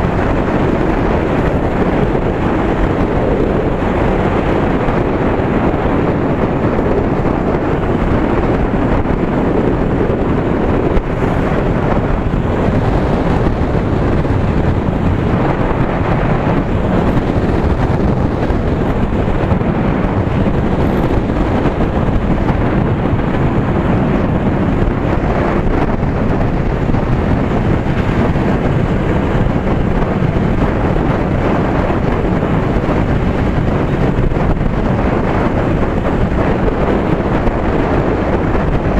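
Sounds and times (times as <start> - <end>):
road and vehicle noise: 0.0 - 38.9
wind rushing over microphone: 0.0 - 38.9.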